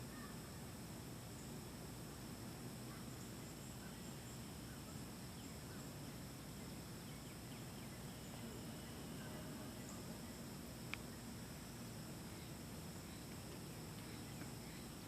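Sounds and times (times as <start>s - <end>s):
faint bird chirps: 0.0s - 1.7s, 2.8s - 15.0s
low hiss: 0.0s - 15.0s.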